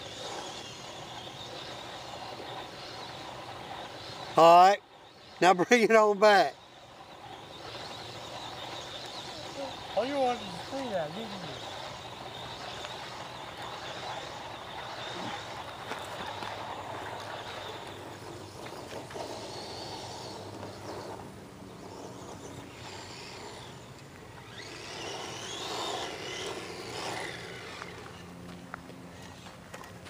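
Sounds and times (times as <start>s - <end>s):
steady rushing noise: 0.0s - 29.7s
rc truck electric motor whining: 0.0s - 30.0s.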